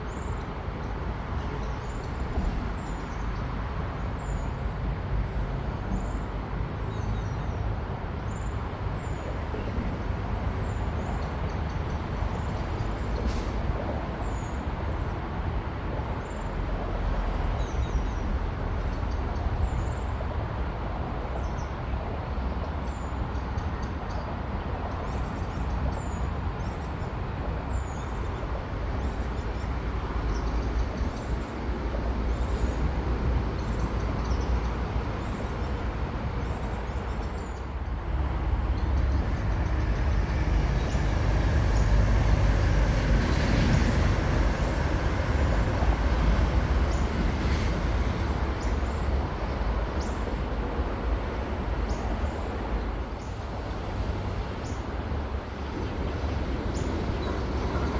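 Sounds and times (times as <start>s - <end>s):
high-speed train passing: 0.0s - 57.9s.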